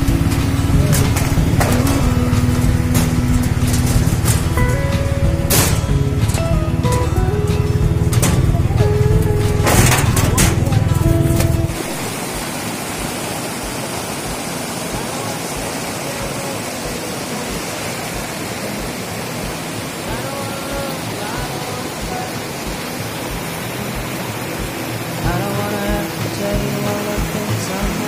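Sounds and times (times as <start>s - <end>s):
faint music: 0.0s - 28.0s
river rapids rushing: 0.0s - 28.0s.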